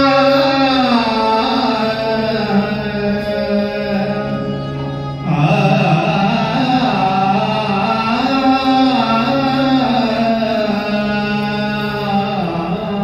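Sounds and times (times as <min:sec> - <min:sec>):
harmonium: 0:00.0 - 0:13.0
sarangi: 0:00.0 - 0:13.0.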